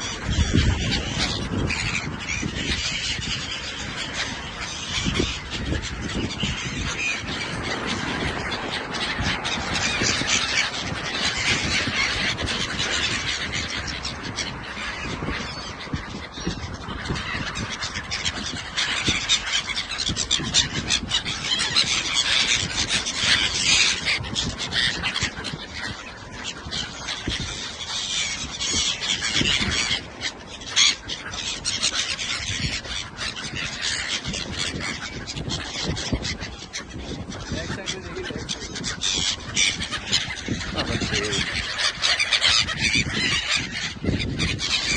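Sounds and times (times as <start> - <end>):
gulls calling: 0.0 - 44.9.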